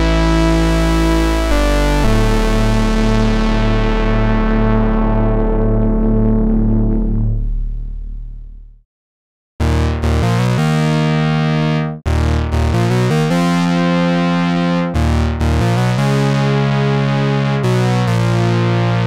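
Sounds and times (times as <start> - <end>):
synthesizer notes with bass: 0.0 - 8.8, 9.6 - 19.0.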